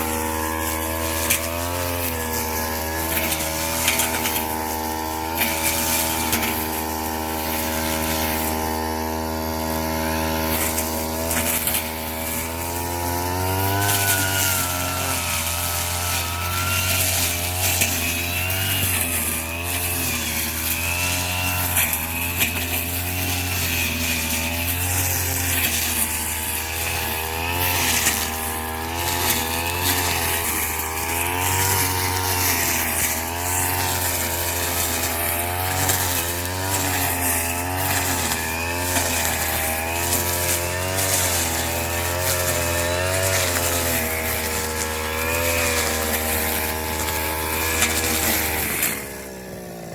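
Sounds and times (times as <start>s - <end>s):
small petrol engine running: 0.0s - 49.9s.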